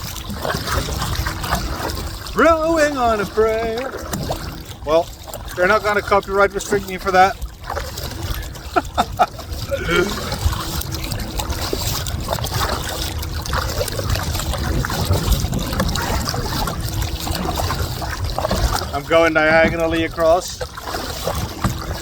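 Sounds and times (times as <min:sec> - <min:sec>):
paddle strokes through water: 0:00.0 - 0:22.0
steady low rumble: 0:00.0 - 0:22.0
water dripping off paddle: 0:00.0 - 0:22.0.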